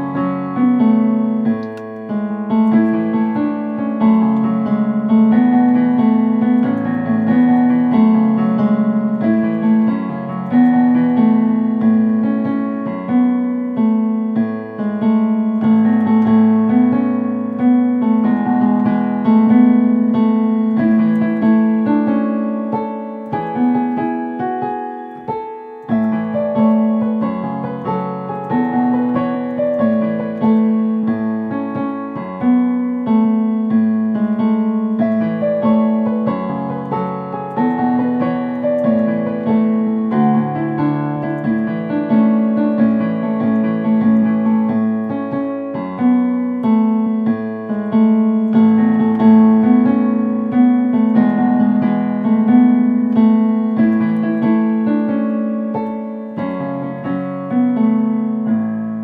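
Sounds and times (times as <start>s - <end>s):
solo digital piano piece: 0.0s - 59.0s.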